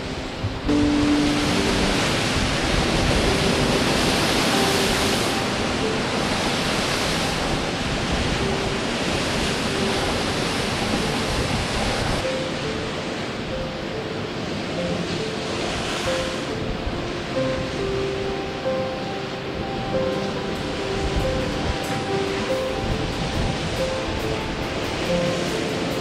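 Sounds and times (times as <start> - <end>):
surf breaking over rocks: 0.2 - 26.0.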